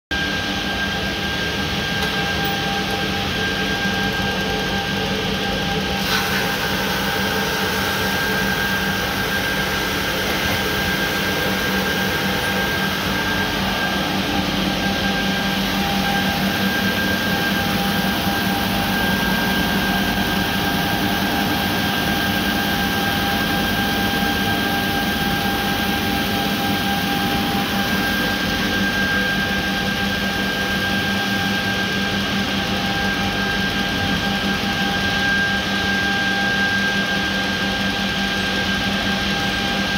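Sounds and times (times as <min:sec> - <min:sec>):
drum sander humming and whining: 0:00.1 - 0:39.9.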